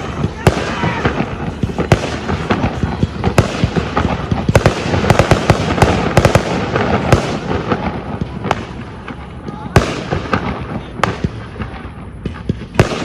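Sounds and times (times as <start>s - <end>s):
distant fireworks bursts: 0.0s - 13.0s
fireworks crackling: 0.0s - 13.0s
sharp fireworks bangs: 0.0s - 13.0s.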